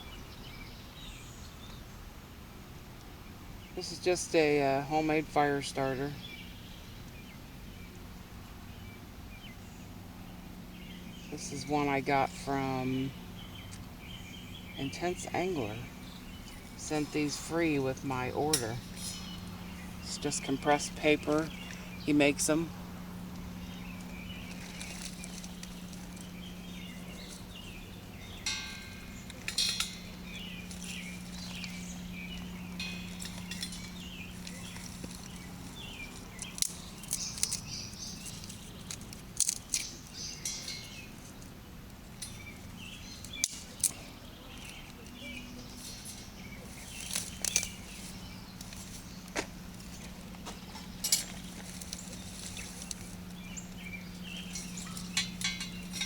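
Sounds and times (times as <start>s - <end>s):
steady low hum: 2.1s - 56.0s.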